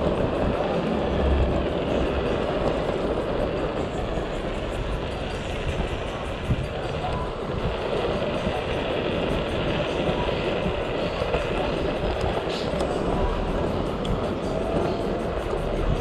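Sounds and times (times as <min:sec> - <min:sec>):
scooter running noise: 0:00.0 - 0:16.0
wind buffeting microphone: 0:00.0 - 0:16.0.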